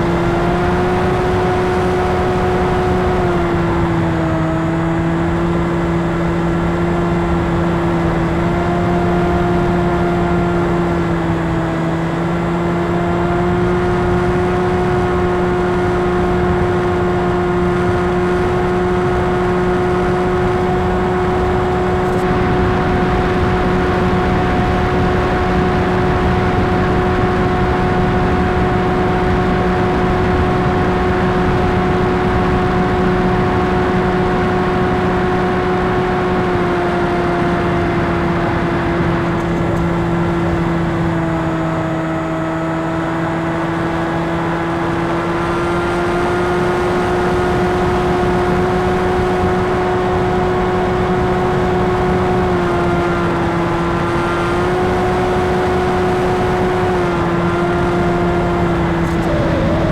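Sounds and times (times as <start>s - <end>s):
electric motor and propeller hum: 0.0s - 45.2s, 47.5s - 59.9s.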